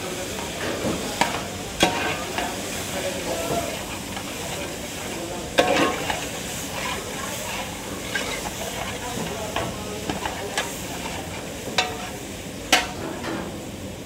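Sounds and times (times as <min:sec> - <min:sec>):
steady kitchen hiss: 0:00.0 - 0:14.0.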